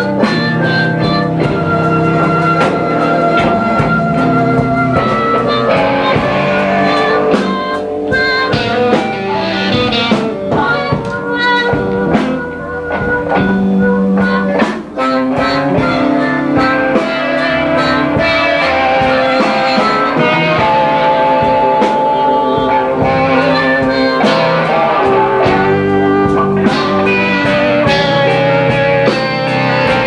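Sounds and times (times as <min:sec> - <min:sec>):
blues band playing: 0:00.0 - 0:30.0
electric guitar lead: 0:00.0 - 0:30.0.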